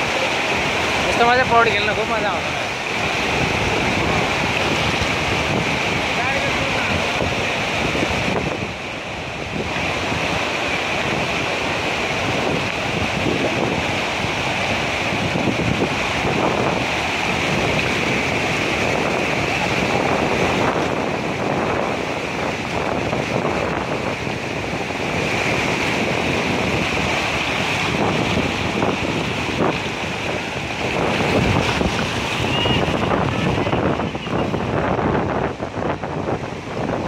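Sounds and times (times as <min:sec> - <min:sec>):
muddy water rushing: 0:00.0 - 0:37.0
wind buffeting microphone: 0:00.0 - 0:37.0.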